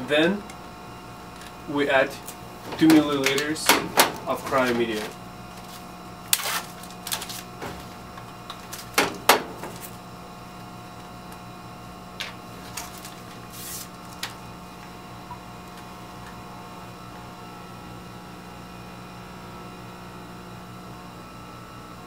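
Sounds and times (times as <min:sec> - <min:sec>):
cabinet blower hum: 0:00.0 - 0:20.4.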